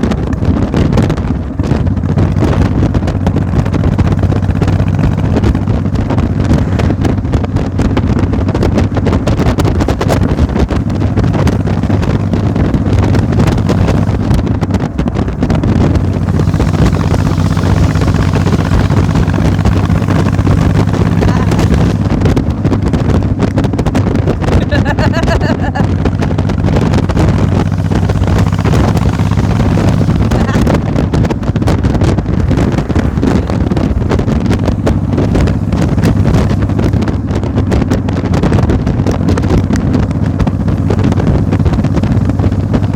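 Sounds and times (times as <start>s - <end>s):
engine humming steadily: 0.0s - 42.9s
wind buffeting microphone: 0.0s - 42.9s.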